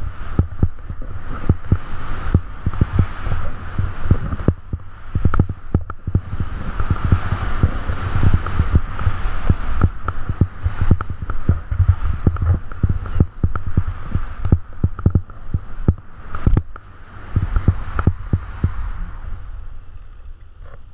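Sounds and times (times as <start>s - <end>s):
skis hissing through snow: 0.0s - 5.4s, 6.0s - 20.0s
wind rumbling on microphone: 0.0s - 20.9s.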